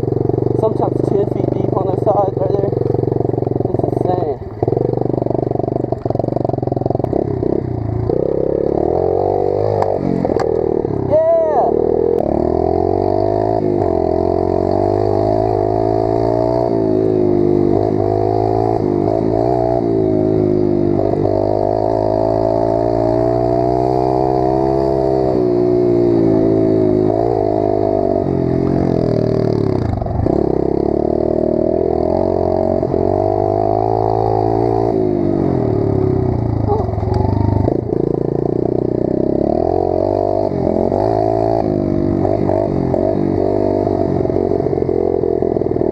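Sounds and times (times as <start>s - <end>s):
motorbike engine revving: 0.0s - 45.9s.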